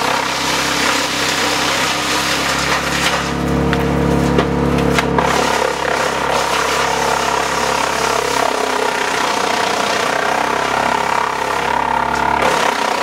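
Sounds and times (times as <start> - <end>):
tractor engine running: 0.0 - 13.0
wood chipper running under load: 0.0 - 13.0.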